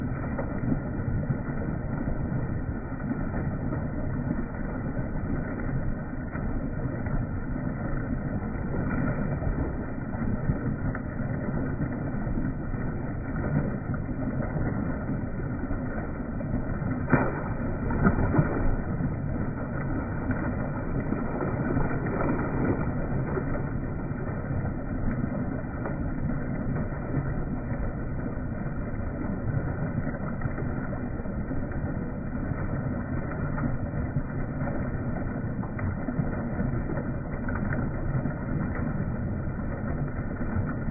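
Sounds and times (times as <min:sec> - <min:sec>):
boat motor rumbling: 0:00.0 - 0:40.9.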